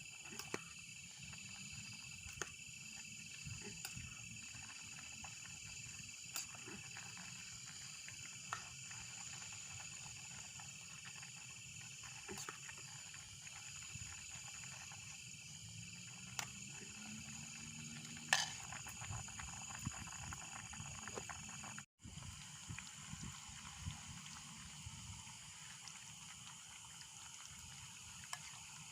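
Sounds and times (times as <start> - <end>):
high-pitched insect chorus: 0.0 - 28.9.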